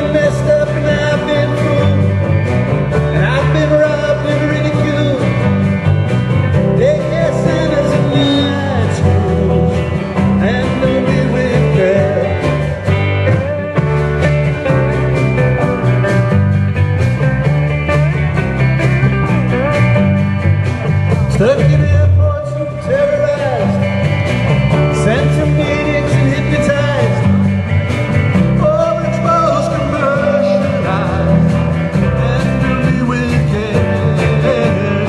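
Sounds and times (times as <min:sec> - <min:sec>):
lead guitar bending notes: 0:00.0 - 0:35.0
rock band playing: 0:00.0 - 0:35.0.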